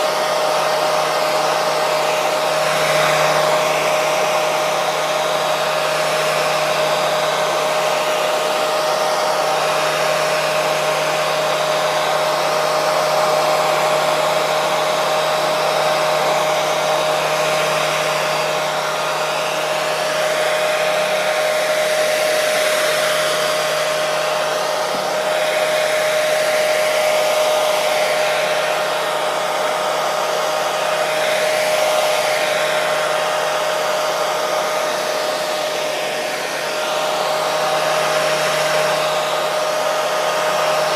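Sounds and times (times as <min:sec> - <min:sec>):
electric hair dryer running: 0:00.0 - 0:40.9.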